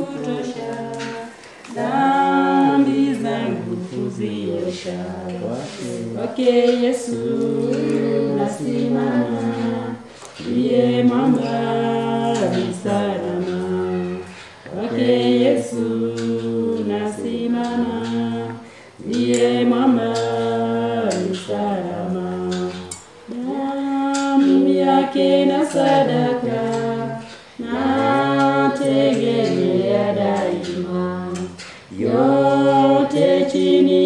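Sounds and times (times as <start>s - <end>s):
group singing a cappella: 0.0s - 34.0s.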